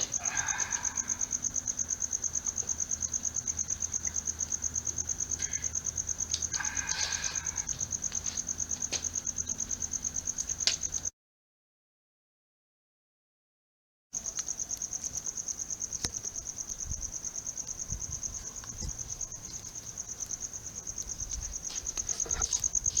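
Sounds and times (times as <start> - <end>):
cricket chirping: 0.0 - 11.1, 14.2 - 23.0.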